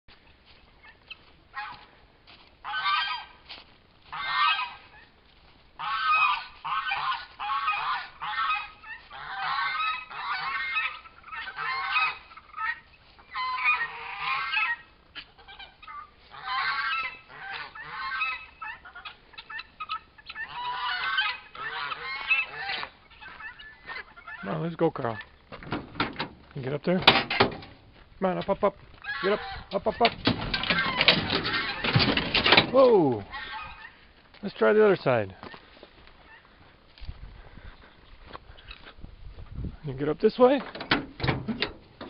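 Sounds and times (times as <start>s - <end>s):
poultry calling: 0.2s - 36.8s, 37.4s - 39.0s, 39.8s - 42.0s.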